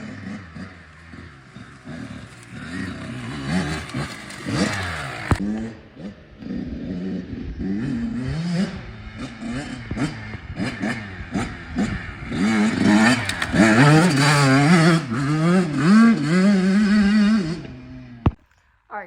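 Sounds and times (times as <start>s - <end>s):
dirt bike engine revving: 0.0s - 18.4s.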